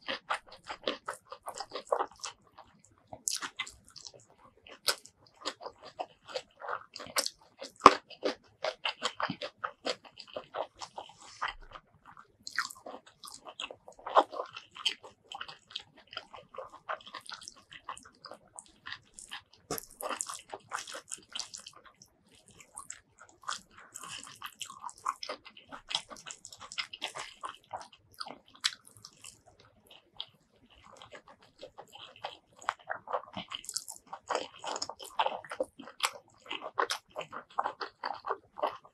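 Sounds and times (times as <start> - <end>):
chewing with crunches: 0.0 - 38.9.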